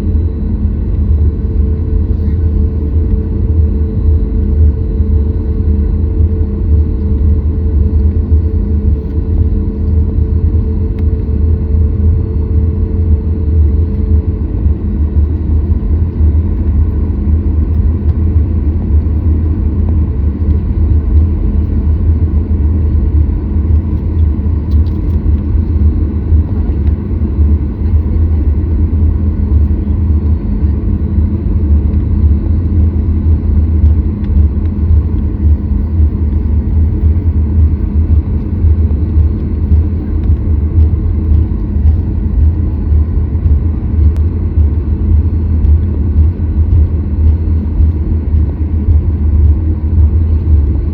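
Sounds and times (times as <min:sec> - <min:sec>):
faint steady hum: 0:00.0 - 0:50.9
jet engine cabin rumble: 0:00.0 - 0:50.9.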